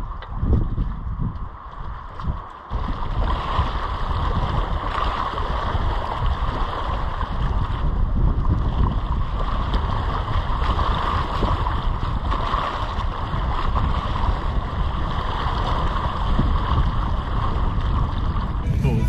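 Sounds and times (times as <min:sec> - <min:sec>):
water lapping against rocks: 0:00.0 - 0:18.6
wind buffeting microphone: 0:00.0 - 0:18.7.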